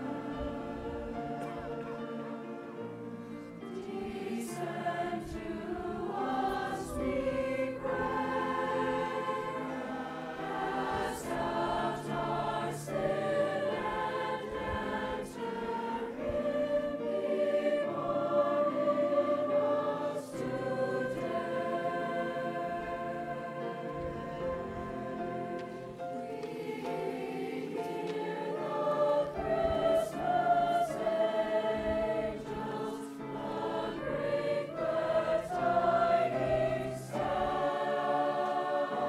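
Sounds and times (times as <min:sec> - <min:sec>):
choir singing sustained chords: 0:00.0 - 0:39.0.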